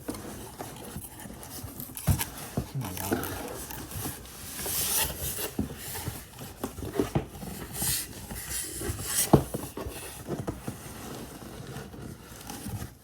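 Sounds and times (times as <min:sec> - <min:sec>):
cardboard box rustling and scraping: 0:00.0 - 0:13.0.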